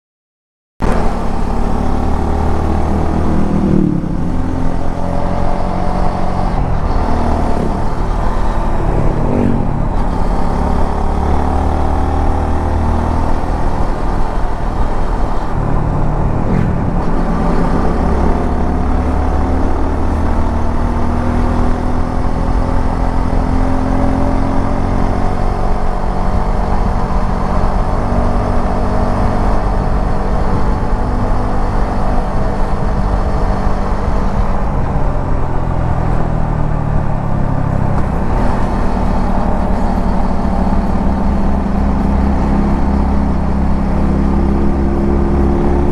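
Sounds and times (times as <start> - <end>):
road noise: 0.8 - 45.9.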